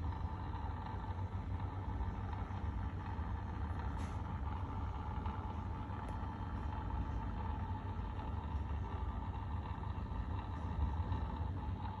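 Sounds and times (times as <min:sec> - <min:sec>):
faint continuous hum: 0:00.0 - 0:12.0
low background rumble: 0:00.0 - 0:12.0.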